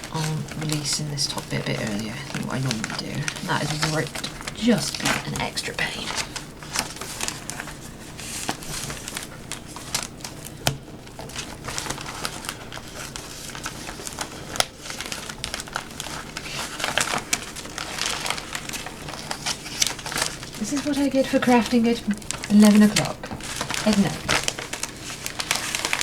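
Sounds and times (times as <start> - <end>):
backing paper crinkling: 0.0 - 26.0.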